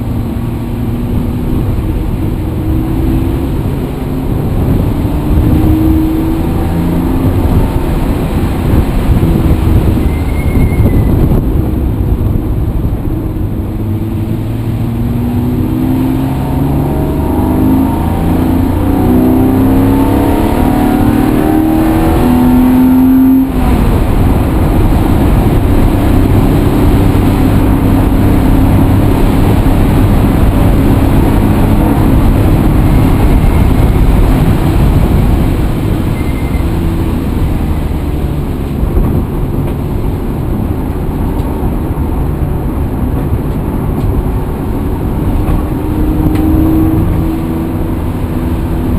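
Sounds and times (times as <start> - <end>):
vehicle engine accelerating: 0.0 - 48.9.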